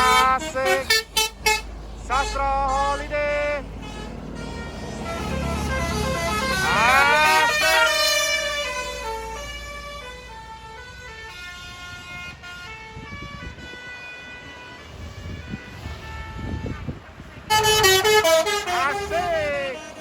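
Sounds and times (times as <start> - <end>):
musical bus horn playing a tune: 0.0 - 20.0.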